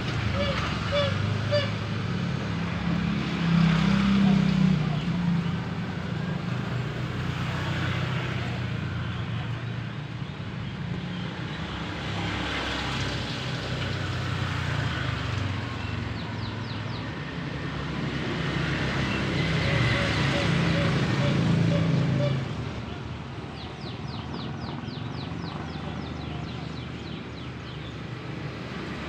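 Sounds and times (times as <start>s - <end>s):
passing vehicles engine hum: 0.0s - 29.0s.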